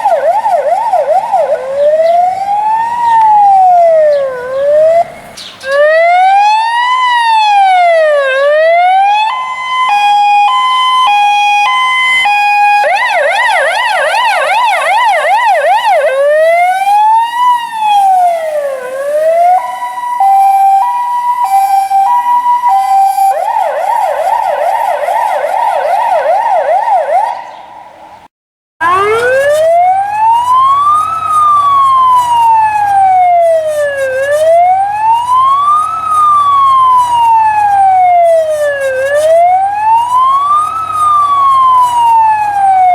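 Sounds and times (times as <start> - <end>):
engine rumble: 0.0 - 25.2, 27.8 - 42.9
fire engine siren: 0.0 - 28.1, 28.8 - 42.9.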